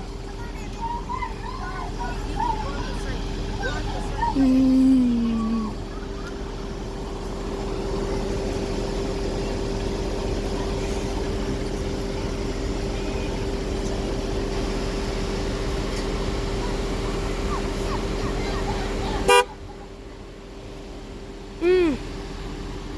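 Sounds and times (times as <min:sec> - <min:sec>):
bus engine humming: 0:00.0 - 0:22.9.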